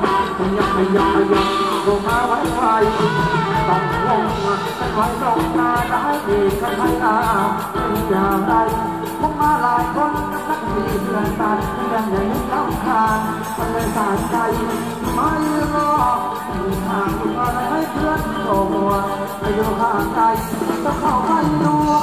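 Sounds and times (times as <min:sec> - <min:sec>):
live band dance music: 0:00.0 - 0:22.0
person singing: 0:00.0 - 0:22.0.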